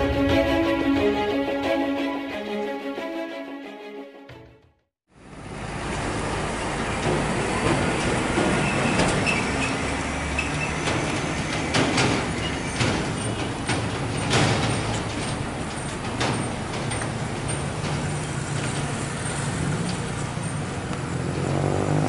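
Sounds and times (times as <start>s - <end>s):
diesel traffic: 0.0s - 3.6s, 5.1s - 22.0s.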